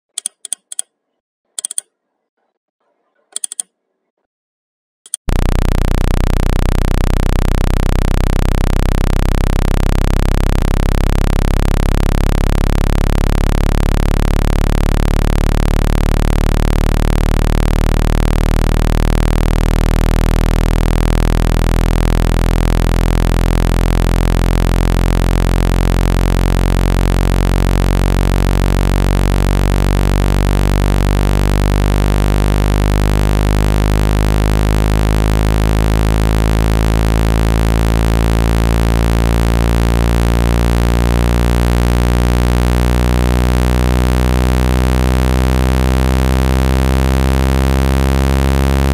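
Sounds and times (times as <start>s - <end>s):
low electronic buzz: 5.1s - 48.9s.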